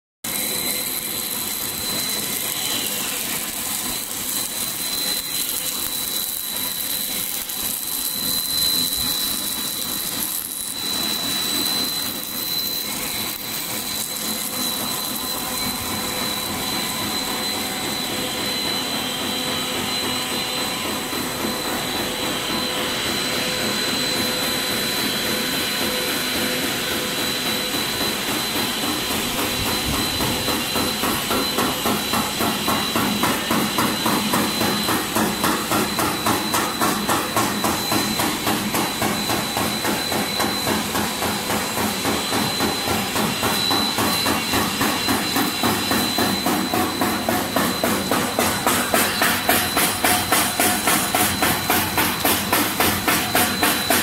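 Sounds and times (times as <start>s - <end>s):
high-pitched whine: 0.2s - 54.0s
extrusion machine hiss and hum: 0.3s - 54.0s.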